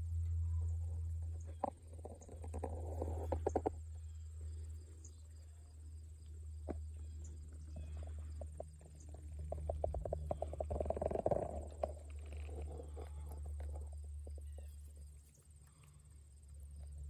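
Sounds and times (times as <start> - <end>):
low steady rumble: 0.0 - 17.0
rabbits chewing grass: 0.0 - 17.0.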